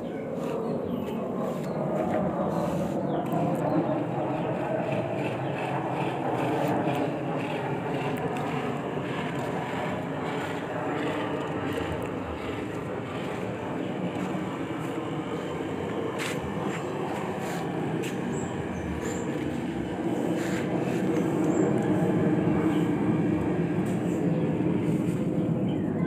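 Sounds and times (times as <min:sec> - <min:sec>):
heat gun fan humming: 0:02.5 - 0:25.5.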